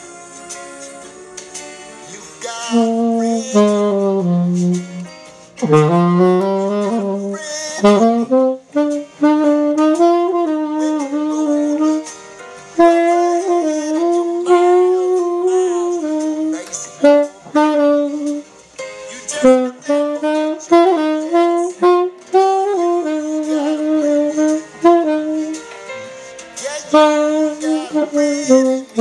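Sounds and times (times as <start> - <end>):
quieter background music: 0.0 - 29.0
saxophone playing slow jazz: 0.0 - 29.0.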